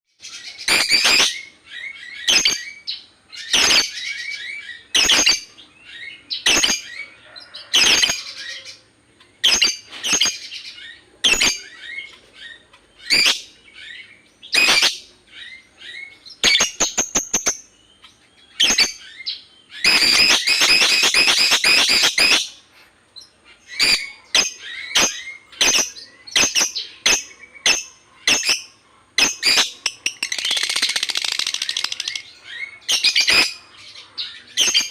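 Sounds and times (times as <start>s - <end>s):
bird chatter: 0.2s - 34.9s
bird chirping high-pitched calls: 0.2s - 34.9s.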